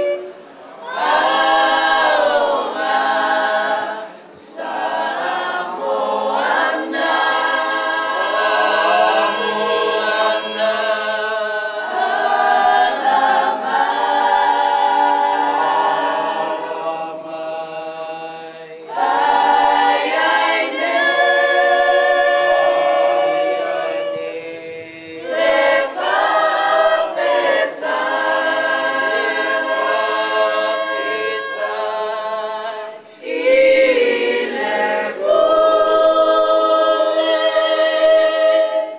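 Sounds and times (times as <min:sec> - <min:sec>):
unaccompanied choir singing: 0:00.0 - 0:38.9.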